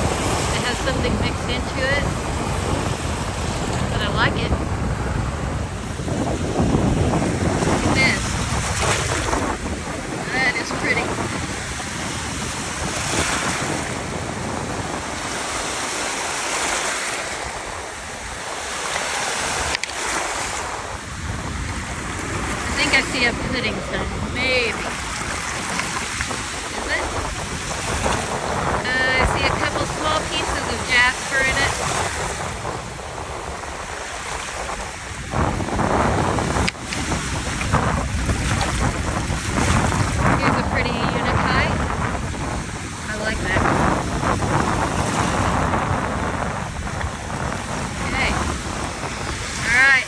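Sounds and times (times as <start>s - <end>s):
waves washing onto shore: 0.0s - 50.0s
wind buffeting microphone: 0.0s - 50.0s.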